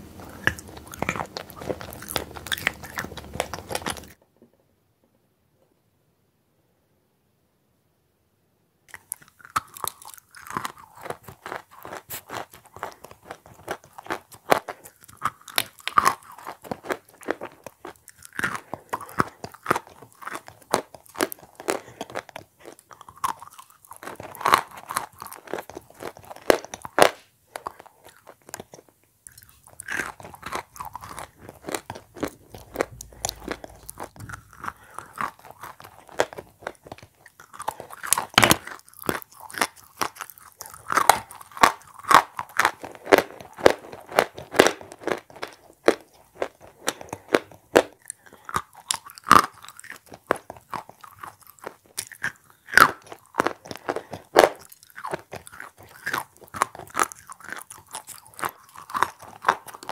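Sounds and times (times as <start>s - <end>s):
crunching chalk: 9.0s - 59.9s.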